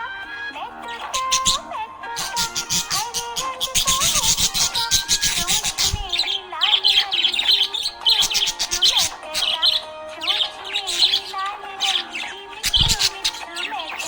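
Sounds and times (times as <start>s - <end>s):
background music: 0.0s - 14.0s
budgerigar chirping and warbling: 0.1s - 14.0s.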